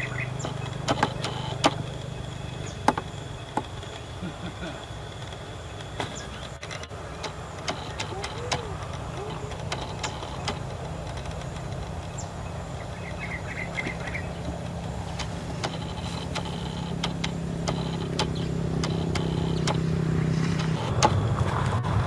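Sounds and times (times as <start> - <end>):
high chirping: 0.0 - 6.6, 7.4 - 21.2
motor humming: 0.0 - 22.0
sharp clicks: 0.0 - 22.0.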